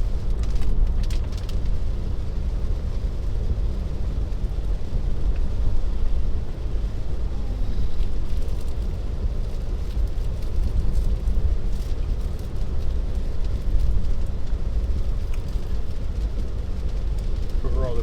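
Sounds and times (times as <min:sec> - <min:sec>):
tyres on wet road: 0:00.0 - 0:18.0.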